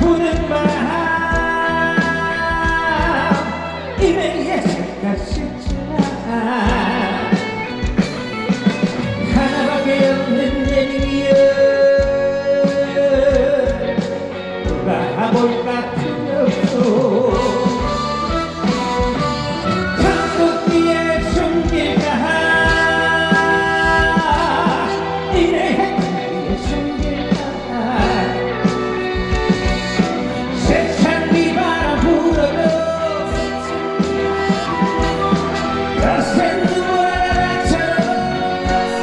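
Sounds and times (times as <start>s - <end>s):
man singing: 0.0s - 8.1s, 9.0s - 39.0s
backing music with drums and bass: 0.0s - 39.0s.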